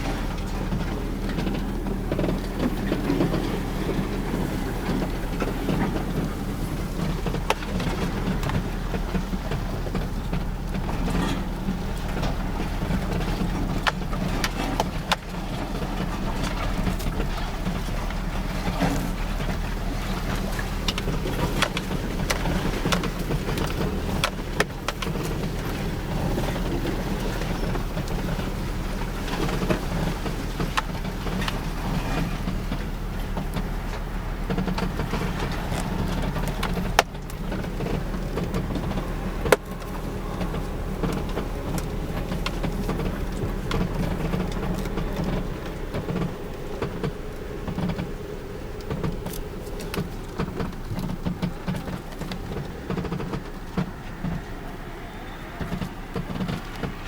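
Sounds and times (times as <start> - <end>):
car road noise inside cabin: 0.0 - 57.0
interior clicks and creaks: 0.0 - 57.0.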